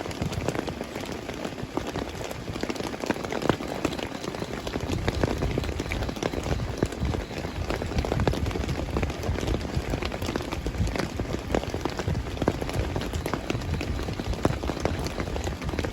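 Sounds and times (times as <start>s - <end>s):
heavy rain falling: 0.0s - 15.9s
raindrops striking close by: 0.0s - 15.9s.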